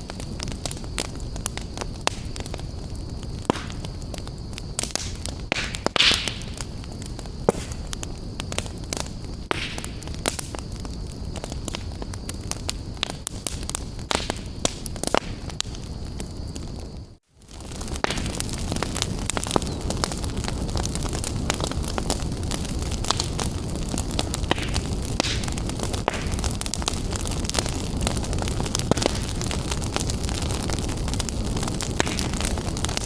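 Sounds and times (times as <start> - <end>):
fireplace fire crackling and popping: 0.0 - 33.0.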